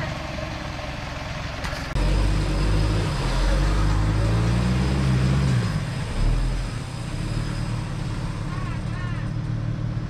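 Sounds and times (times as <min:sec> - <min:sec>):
off-road vehicle engine revving: 0:01.3 - 0:10.0.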